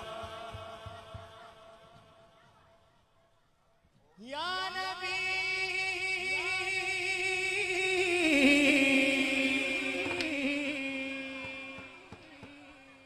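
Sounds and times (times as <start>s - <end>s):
man singing wordless vocal: 0.0s - 2.2s, 4.2s - 13.0s.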